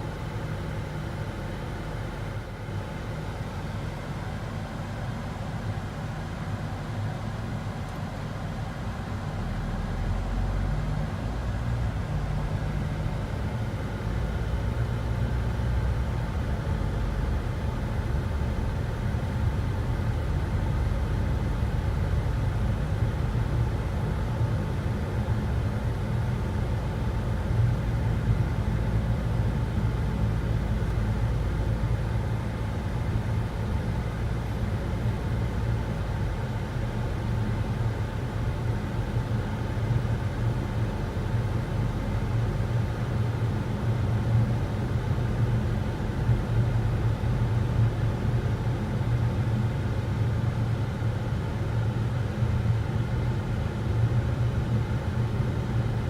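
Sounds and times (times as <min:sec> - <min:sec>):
engine and road noise in cabin: 0:00.0 - 0:56.0.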